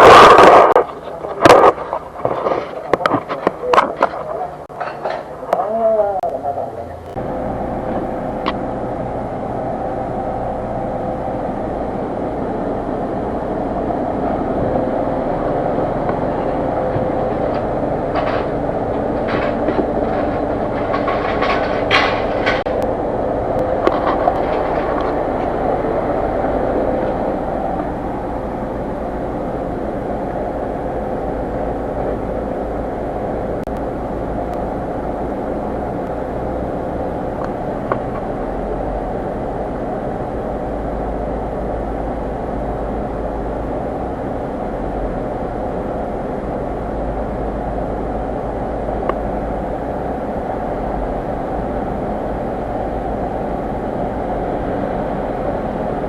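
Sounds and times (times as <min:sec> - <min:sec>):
car running steadily: 0:00.0 - 0:56.0.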